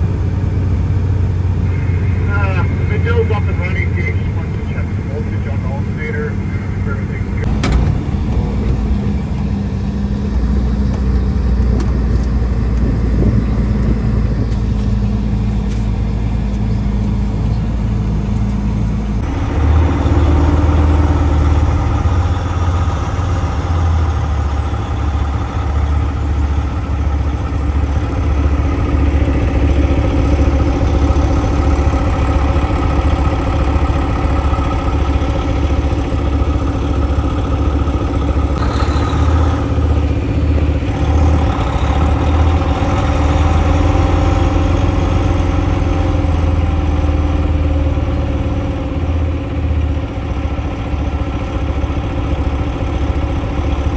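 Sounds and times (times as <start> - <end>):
diesel truck engine running: 0.0 - 53.9.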